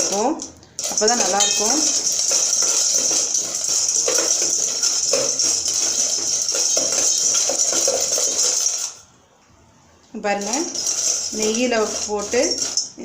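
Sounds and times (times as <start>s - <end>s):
pasta rattling against pan: 0.0s - 9.0s, 10.4s - 13.0s.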